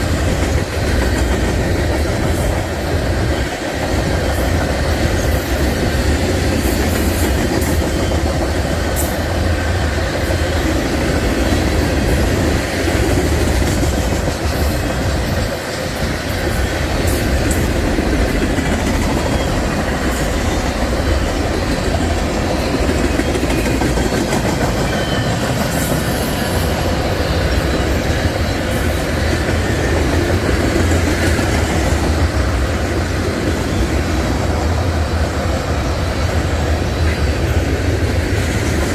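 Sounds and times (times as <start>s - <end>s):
train rumbling by: 0.0s - 38.9s.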